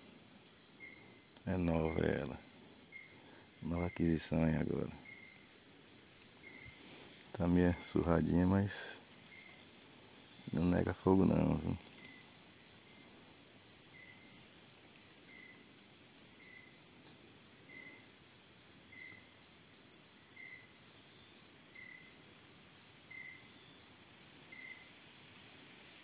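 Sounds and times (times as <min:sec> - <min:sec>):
high insect chirp: 0:00.0 - 0:26.0
soft low insect chirp: 0:00.0 - 0:26.0.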